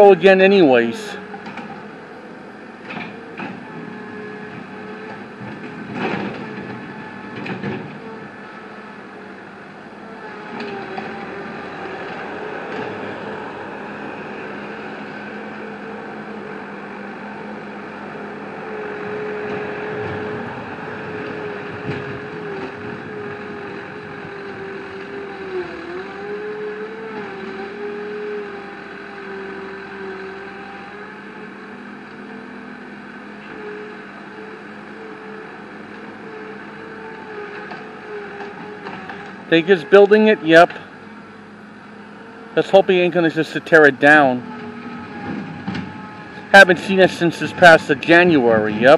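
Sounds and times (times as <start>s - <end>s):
machinery engine droning whine: 0.0s - 48.9s.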